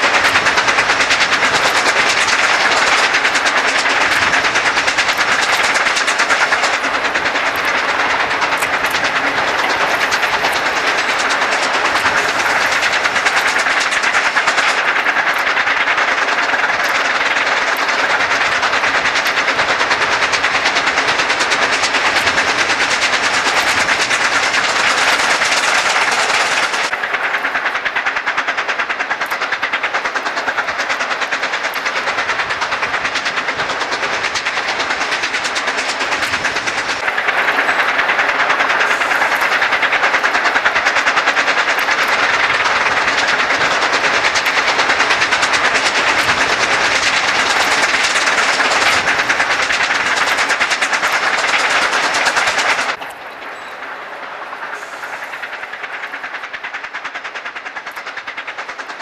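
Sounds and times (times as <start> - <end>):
steam locomotive exhaust beats: 0.0 - 59.0
train running noise: 0.0 - 59.0.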